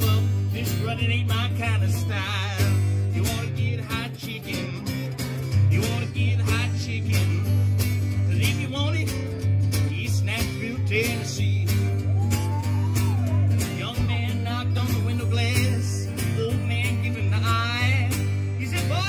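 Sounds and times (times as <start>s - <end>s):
man singing: 0.0s - 19.0s
strummed acoustic guitar: 0.0s - 19.0s.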